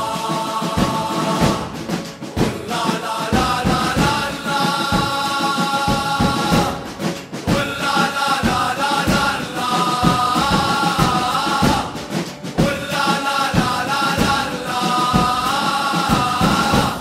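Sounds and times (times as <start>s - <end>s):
crowd singing in unison: 0.0s - 17.0s
steady drum beat: 0.0s - 17.0s.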